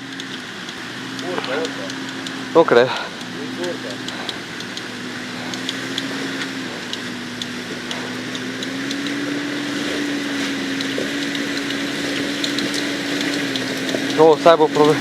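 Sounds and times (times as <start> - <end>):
sharp clicks: 0.0 - 15.0
vehicle engine running under load: 0.0 - 15.0.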